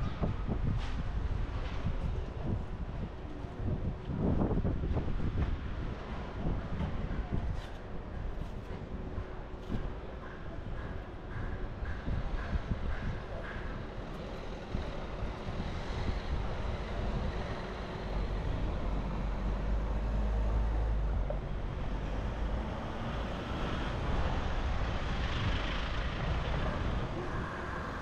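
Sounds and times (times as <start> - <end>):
street traffic passing: 0.0 - 28.0.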